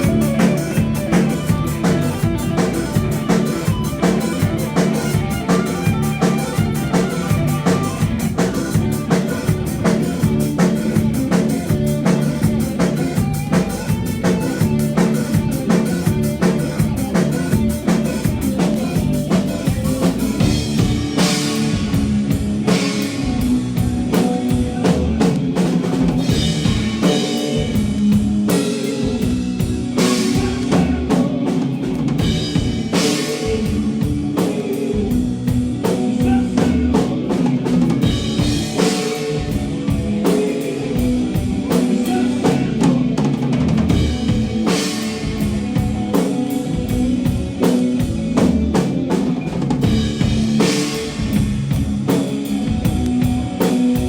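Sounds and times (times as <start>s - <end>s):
drum kit: 0.0s - 54.0s
live band playing: 0.0s - 54.0s.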